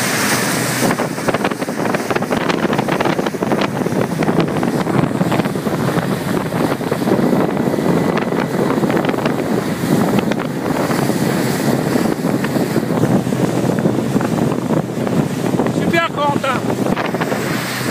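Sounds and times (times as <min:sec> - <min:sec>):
churning water and spray: 0:00.0 - 0:17.9
wind buffeting microphone: 0:00.0 - 0:17.9.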